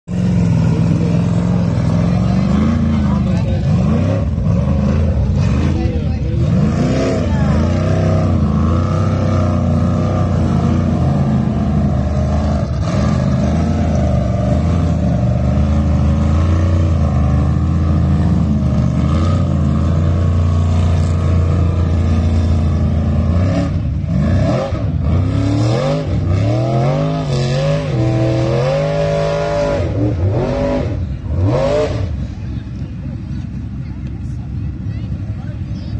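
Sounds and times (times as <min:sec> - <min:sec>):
buggy engine revving: 0:00.0 - 0:35.9.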